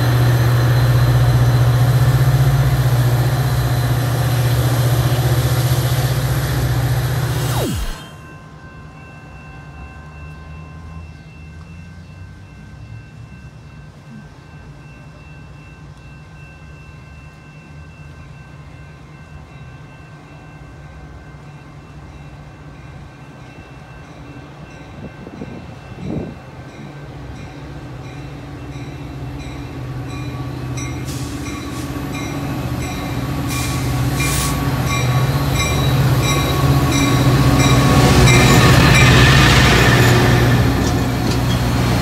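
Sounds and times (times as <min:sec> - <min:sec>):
diesel locomotive engine hum: 0:00.0 - 0:42.0
grade crossing warning bell: 0:00.0 - 0:42.0.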